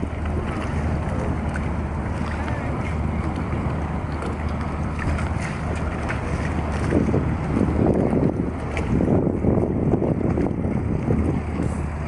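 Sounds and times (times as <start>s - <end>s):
ship engine droning: 0.0s - 12.0s
water along hull: 0.0s - 12.0s
wind on microphone: 0.0s - 12.0s.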